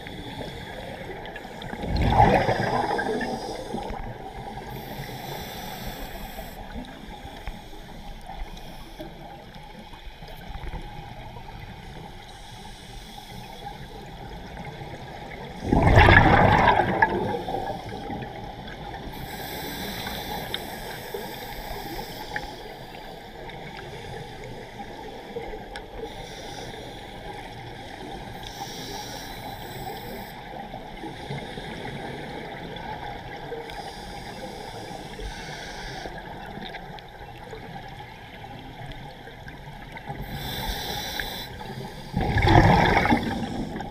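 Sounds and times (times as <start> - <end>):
watery hiss underwater: 0.0 - 9.3, 11.6 - 37.9, 39.0 - 43.9
scuba exhaust bubbles gushing: 0.0 - 43.9.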